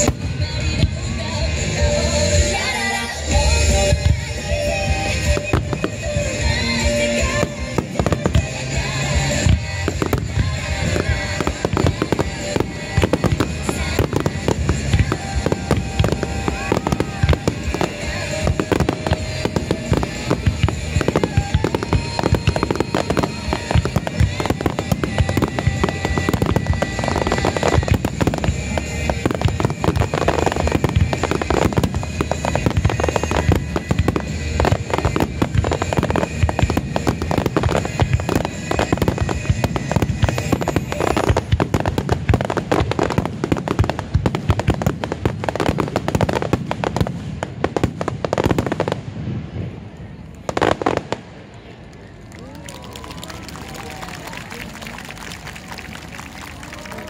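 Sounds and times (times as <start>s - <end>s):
music from loudspeakers: 0.0s - 47.1s
fireworks bursting and crackling: 0.0s - 57.0s.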